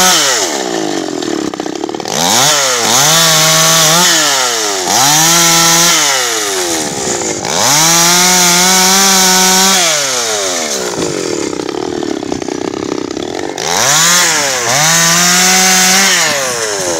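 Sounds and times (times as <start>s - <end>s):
chainsaw cutting wood: 0.0s - 16.9s
chainsaw engine revving: 0.0s - 16.9s.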